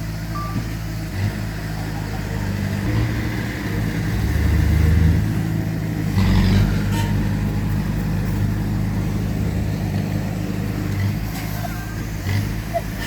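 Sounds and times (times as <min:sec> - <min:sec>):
heavy diesel engines under load: 0:00.0 - 0:13.0.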